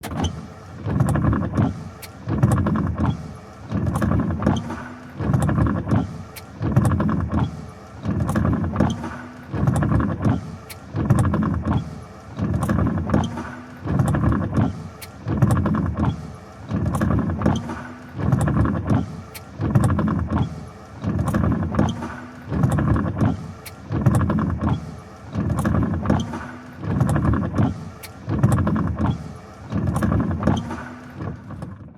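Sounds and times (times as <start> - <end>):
vehicle mechanism running rhythmically: 0.0 - 31.9.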